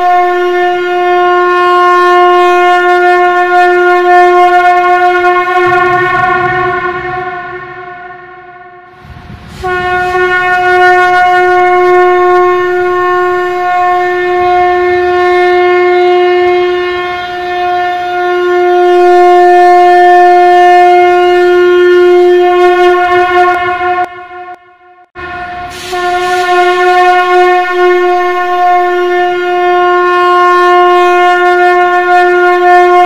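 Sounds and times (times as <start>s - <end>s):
conch shell blast: 0.0s - 33.0s.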